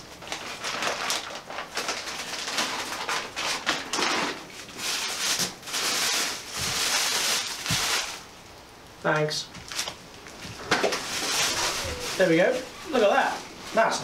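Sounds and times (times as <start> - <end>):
plastic packaging crinkling: 0.0 - 8.4, 9.5 - 14.0.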